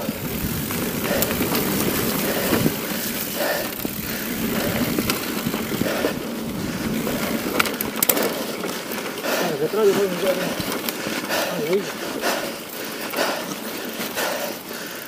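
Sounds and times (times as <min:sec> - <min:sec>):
bike rattling: 0:00.0 - 0:15.0
bike tyres on stony dirt: 0:00.0 - 0:15.0
sharp clicks over bumps: 0:00.0 - 0:15.0.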